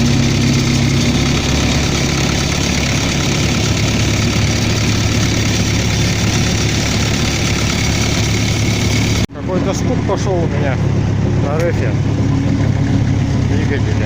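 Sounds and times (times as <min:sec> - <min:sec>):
diesel engine running with knock: 0:00.0 - 0:14.0.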